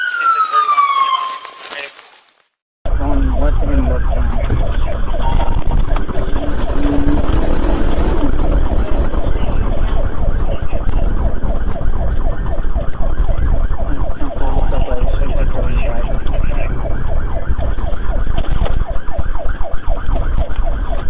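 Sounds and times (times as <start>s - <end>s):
police siren: 0.0s - 1.9s, 2.9s - 21.0s
engine and road rumble: 1.6s - 21.0s.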